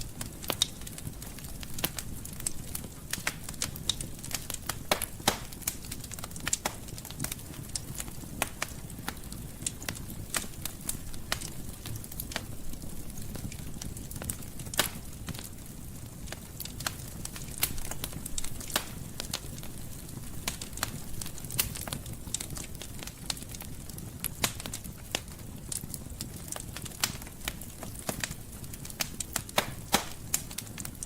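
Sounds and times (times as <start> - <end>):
wood fire crackling in fireplace: 0.0 - 31.0.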